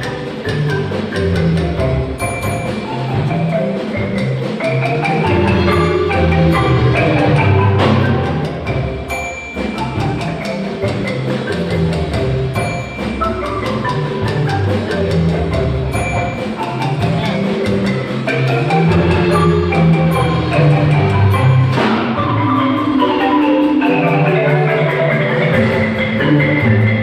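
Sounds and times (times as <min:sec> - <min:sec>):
marimba music: 0:00.0 - 0:27.0
rapid clacking: 0:00.0 - 0:27.0.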